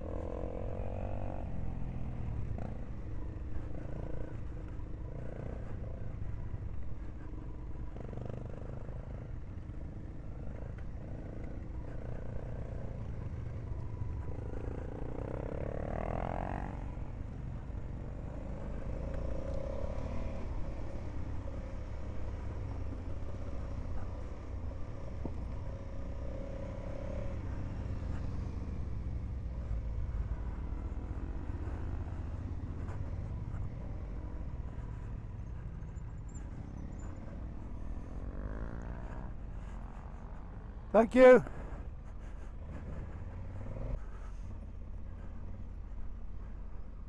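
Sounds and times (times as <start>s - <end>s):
motorcycle engine running: 0.0s - 47.0s
other motorcycles: 0.0s - 47.0s.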